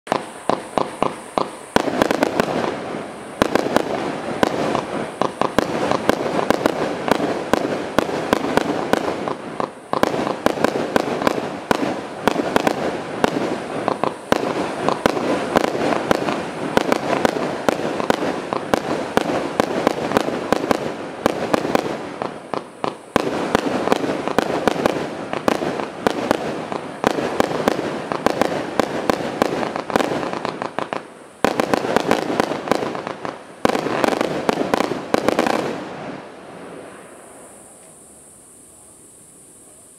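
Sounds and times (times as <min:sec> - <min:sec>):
firework launch pops and bursts: 0:00.1 - 0:38.0.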